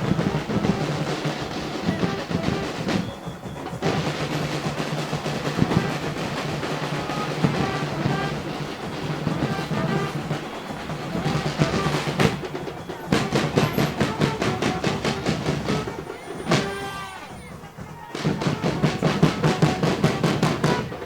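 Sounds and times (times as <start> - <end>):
drum section playing carnival beat: 0.0 - 21.0.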